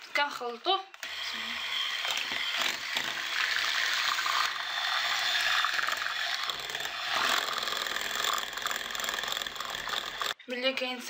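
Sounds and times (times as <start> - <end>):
electric hand mixer whirring: 1.0 - 10.4.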